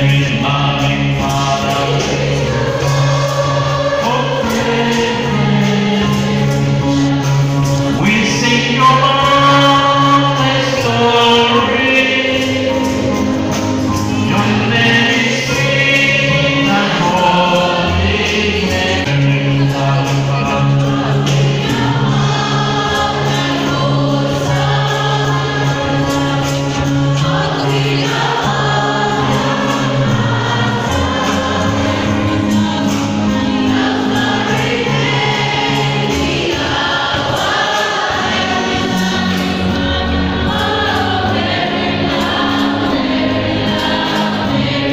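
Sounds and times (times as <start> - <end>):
choir singing a gospel hymn: 0.0 - 44.9.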